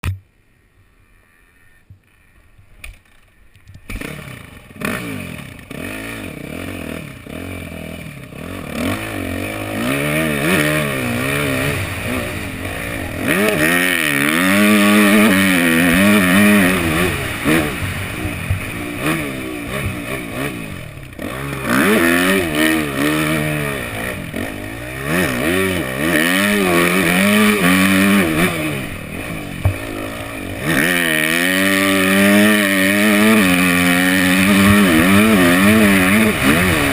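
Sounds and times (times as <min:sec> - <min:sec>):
motocross bike engine revving: 0:01.2 - 0:36.9.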